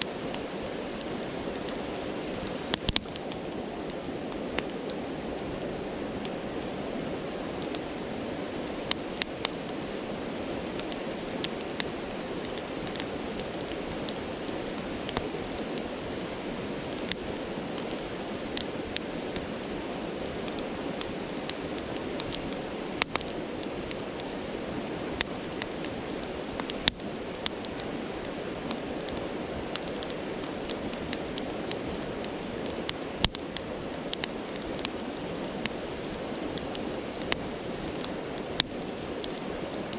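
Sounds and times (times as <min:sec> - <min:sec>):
campfire crackling: 0:00.0 - 0:39.9
stream rushing: 0:00.0 - 0:39.9.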